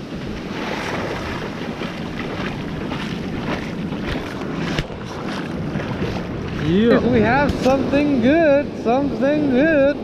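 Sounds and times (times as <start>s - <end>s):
surf washing over sand: 0.0s - 10.0s
wind noise on microphone: 0.0s - 10.0s.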